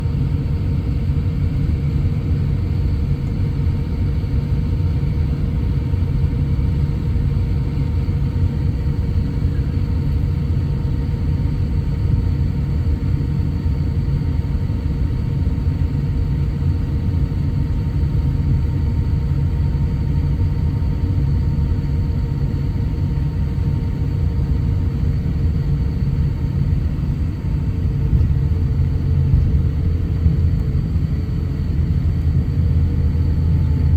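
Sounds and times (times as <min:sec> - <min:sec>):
low engine rumble: 0:00.4 - 0:33.9.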